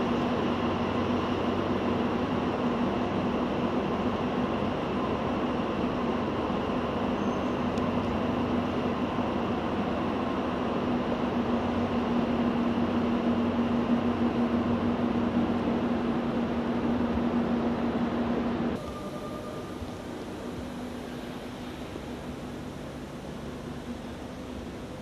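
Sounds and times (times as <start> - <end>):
electric trains humming: 0.0 - 25.0.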